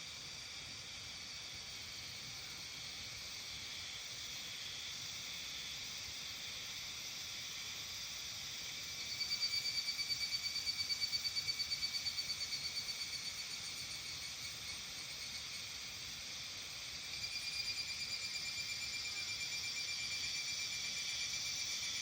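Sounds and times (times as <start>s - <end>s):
fast pulsing insect call: 0.0s - 22.0s
insect chorus: 0.0s - 22.0s.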